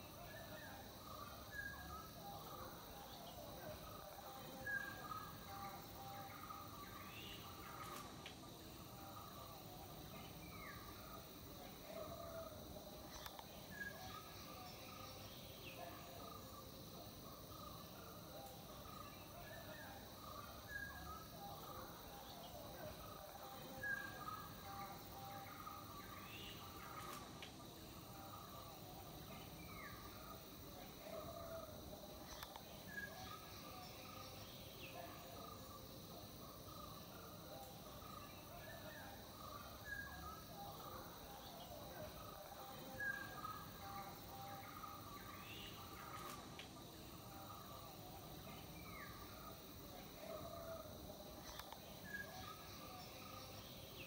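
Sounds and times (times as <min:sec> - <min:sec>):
faint birds chirping: 0:00.0 - 0:54.0
low steady hiss: 0:00.0 - 0:54.0.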